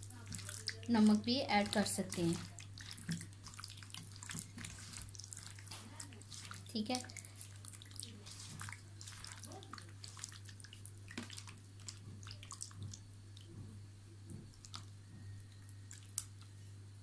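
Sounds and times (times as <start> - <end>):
wet squelches of kneading: 0.0 - 16.8
low steady hum: 0.0 - 17.0.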